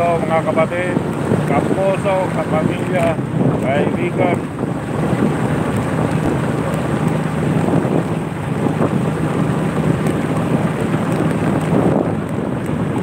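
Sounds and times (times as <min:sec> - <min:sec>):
vehicle engine running: 0:00.0 - 0:13.0
wind buffeting microphone: 0:00.0 - 0:13.0.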